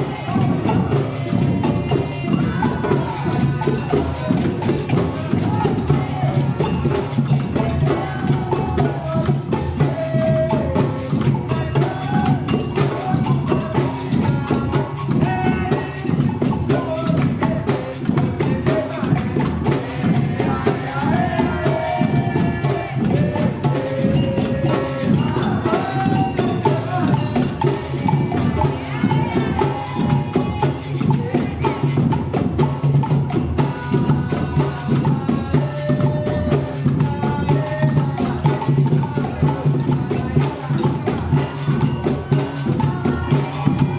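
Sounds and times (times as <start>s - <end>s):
drums and hand percussion: 0.0s - 43.9s
voices singing: 0.0s - 43.9s.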